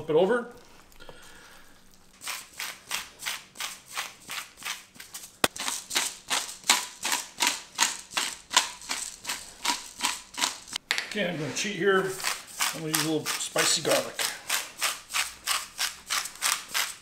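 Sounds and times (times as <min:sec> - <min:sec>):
spice grinder grinding: 0:02.1 - 0:10.8, 0:11.7 - 0:17.0.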